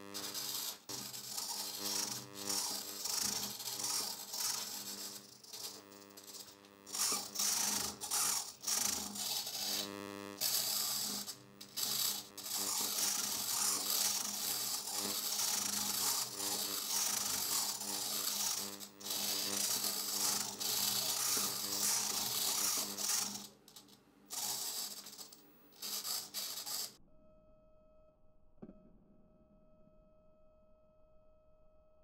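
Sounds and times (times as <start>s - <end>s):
servos whirring and grinding: 0.0s - 27.0s
steady buzz: 0.0s - 27.0s.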